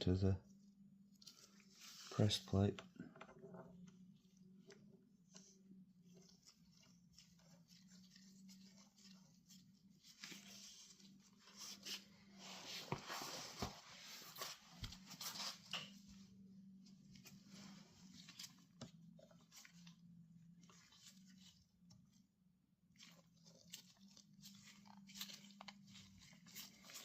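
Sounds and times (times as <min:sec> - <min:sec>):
soft rustling and scraping: 0:00.0 - 0:22.3, 0:22.9 - 0:27.0
low steady hum: 0:00.0 - 0:27.0.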